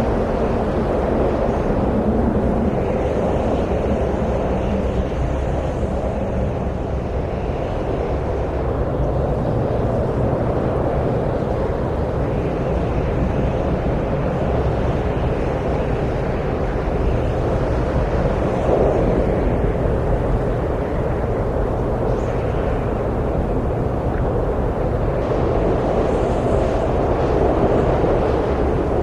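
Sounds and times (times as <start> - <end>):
wind blowing: 0.0 - 29.0.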